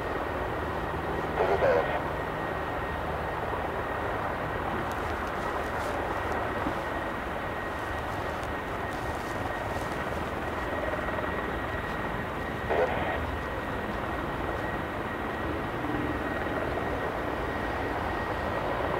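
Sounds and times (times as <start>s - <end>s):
helicopter engines and rotor: 0.0s - 18.9s.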